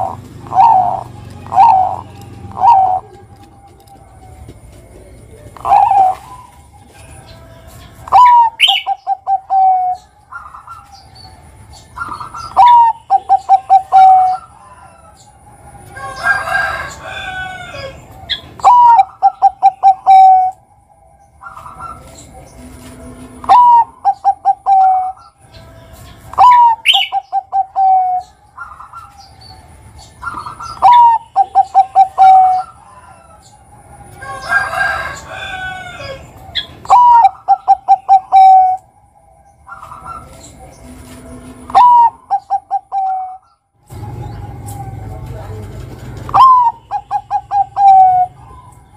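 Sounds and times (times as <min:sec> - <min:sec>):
dove cooing song: 0:00.0 - 0:48.9.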